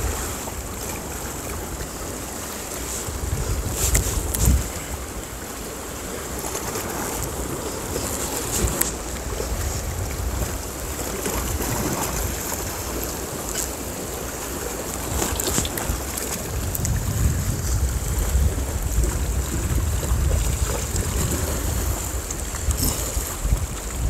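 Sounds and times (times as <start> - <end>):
surf against rocks: 0.0 - 24.0
wind buffeting microphone: 0.0 - 24.0.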